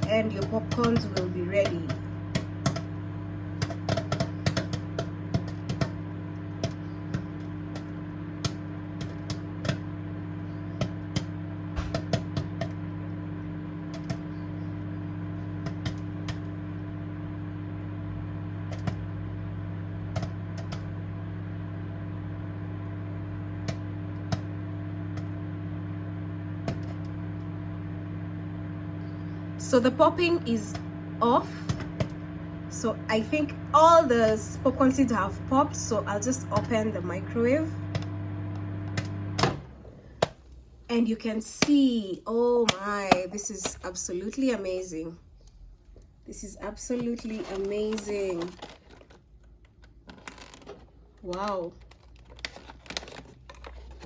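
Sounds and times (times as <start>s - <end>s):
popcorn popping: 0.0s - 44.1s, 46.7s - 54.0s
microwave oven humming: 0.0s - 54.0s.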